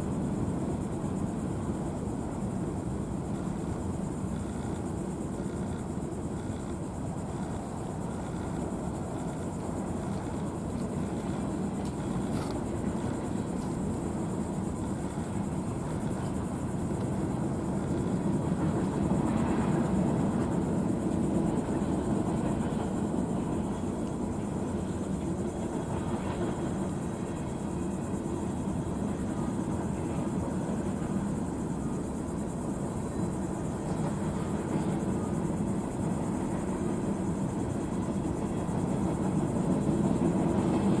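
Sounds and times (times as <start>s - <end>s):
freight train wheels rumbling on rails: 0.0s - 41.0s.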